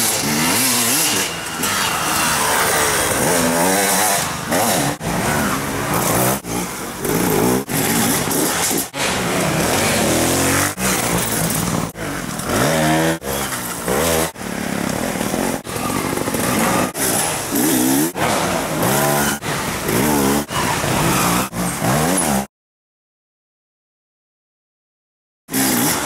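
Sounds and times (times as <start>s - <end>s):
dirt bike engines revving: 0.0s - 22.5s, 25.5s - 26.0s.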